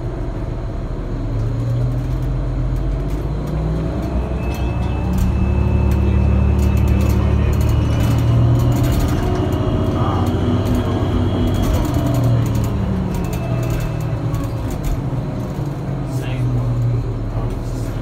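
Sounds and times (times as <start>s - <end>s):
bus engine hum: 0.0s - 18.0s
road noise: 0.0s - 18.0s.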